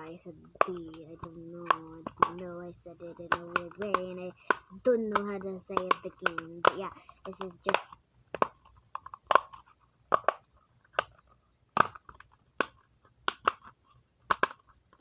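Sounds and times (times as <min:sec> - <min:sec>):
fidget toy bubbles popping: 0:00.0 - 0:11.2, 0:11.8 - 0:13.7, 0:14.3 - 0:15.0.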